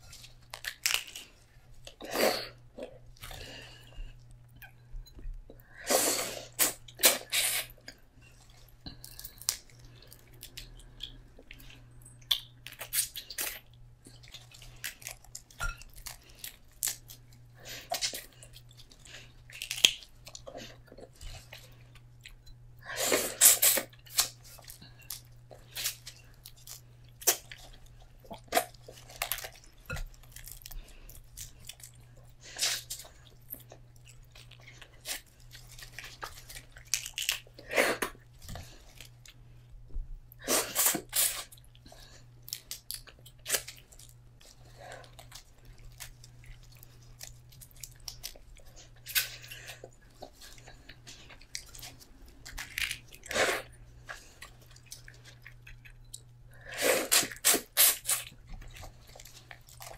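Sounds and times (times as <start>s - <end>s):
person chewing and crunching: 0.0s - 39.7s, 40.3s - 59.9s
steady low hum: 0.0s - 59.9s.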